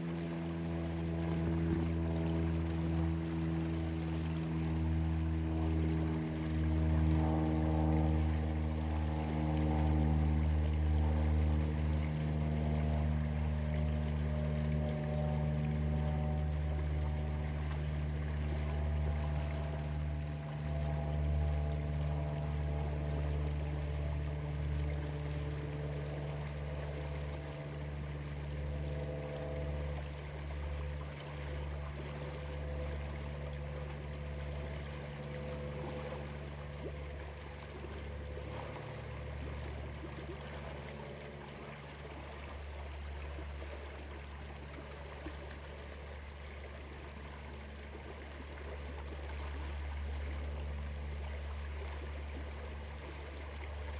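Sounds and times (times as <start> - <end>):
low motor hum: 0.0 - 53.9
river water flowing: 0.0 - 53.9.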